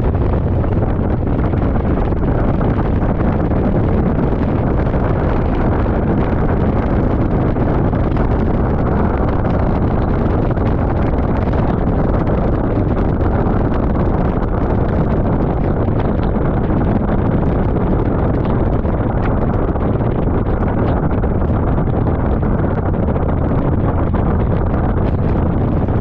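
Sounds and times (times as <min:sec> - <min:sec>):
motorcycle running: 0:00.0 - 0:26.0
wind buffeting microphone: 0:00.0 - 0:26.0.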